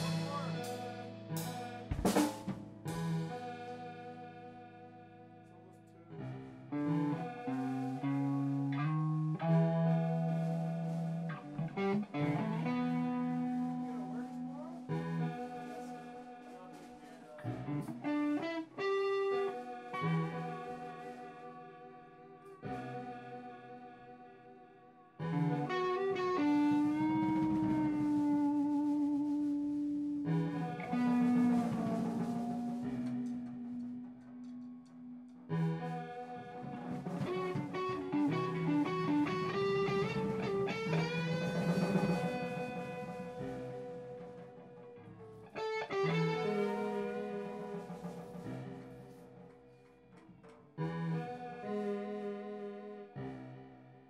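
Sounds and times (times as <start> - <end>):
electric guitar notes and chords: 0.0 - 54.0.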